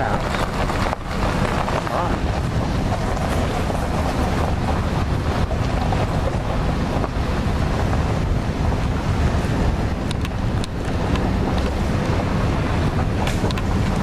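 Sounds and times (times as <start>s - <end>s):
vehicle rumbling on dirt lane: 0.0s - 14.0s
wind buffeting microphone: 0.0s - 14.0s.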